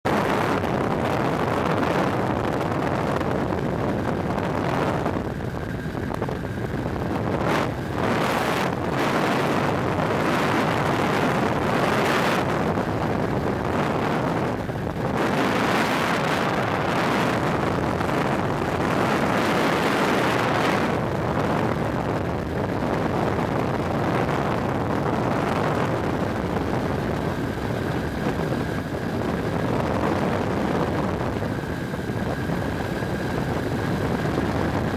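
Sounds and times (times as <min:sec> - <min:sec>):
aircraft engine running: 0:00.0 - 0:34.9
wind rushing over microphone: 0:00.0 - 0:34.9.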